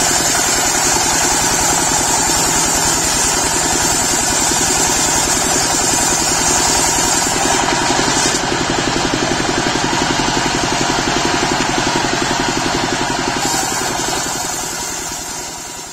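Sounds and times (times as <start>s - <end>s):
sawmill engine running: 0.0s - 15.9s.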